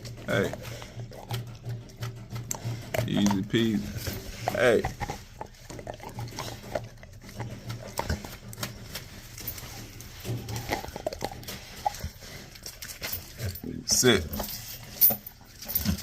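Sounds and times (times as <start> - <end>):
dog chewing a bone: 0.0 - 16.0.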